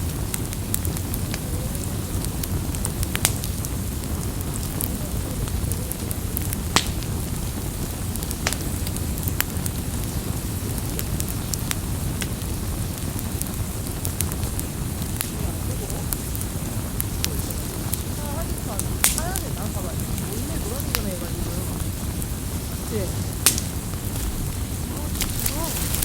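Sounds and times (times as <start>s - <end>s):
flame rushing: 0.0s - 26.0s
wood crackling and popping: 0.0s - 26.0s.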